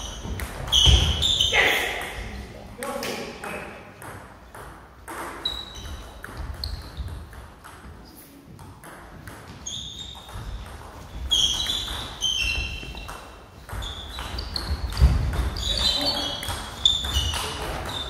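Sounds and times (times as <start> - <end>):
sports shoes squeaking: 0.0 - 2.2, 5.1 - 18.0.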